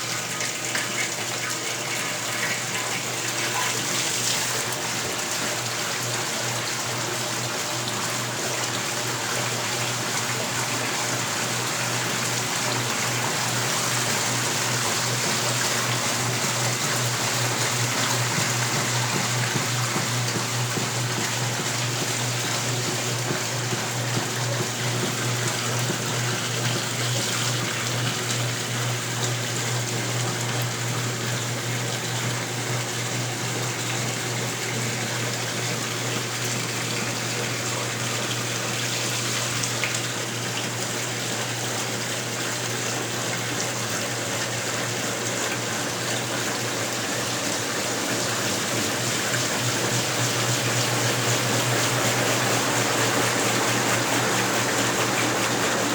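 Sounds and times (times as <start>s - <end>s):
washing machine motor hum: 0.0s - 55.9s
washing machine water rushing: 0.0s - 55.9s.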